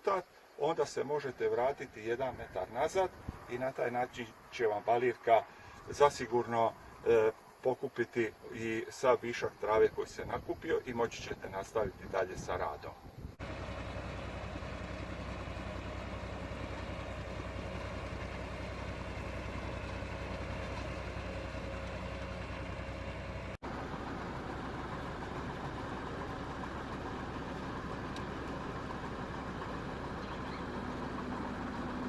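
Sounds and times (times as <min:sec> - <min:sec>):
tractor diesel engine running: 0:00.7 - 0:07.7, 0:08.3 - 0:32.0.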